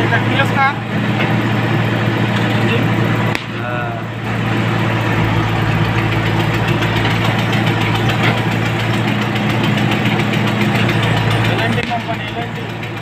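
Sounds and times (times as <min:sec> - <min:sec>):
diesel engine running: 0:00.0 - 0:13.0
backhoe arm digging: 0:00.8 - 0:13.0.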